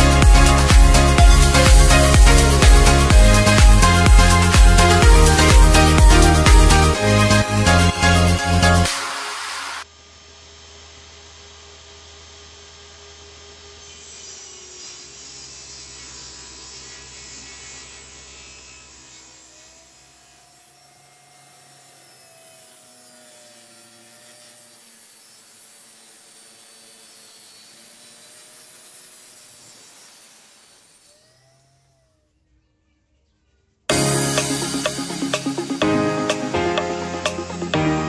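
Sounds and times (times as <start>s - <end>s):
saw blade cutting wood: 0.0s - 9.9s, 12.0s - 32.2s, 33.9s - 37.8s
table saw motor hum: 0.0s - 32.7s, 33.9s - 38.0s.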